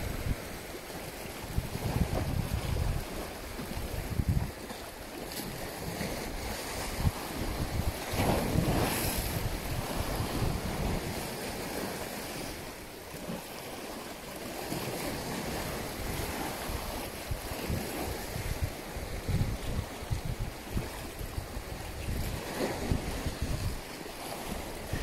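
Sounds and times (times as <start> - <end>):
wind buffeting microphone: 0.0 - 12.8, 14.6 - 25.0
sea waves washing: 0.0 - 25.0.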